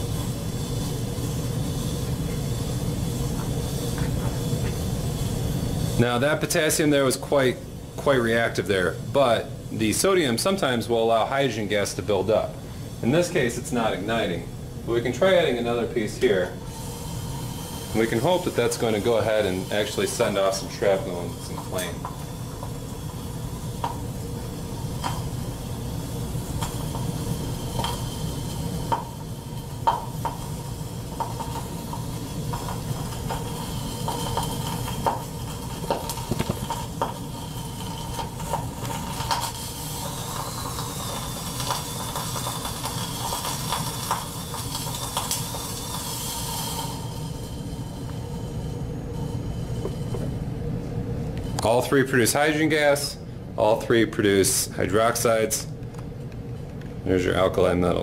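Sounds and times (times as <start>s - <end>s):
metal fizzing and crackling on water: 0.0s - 50.1s
fume hood fan hum: 0.0s - 58.0s.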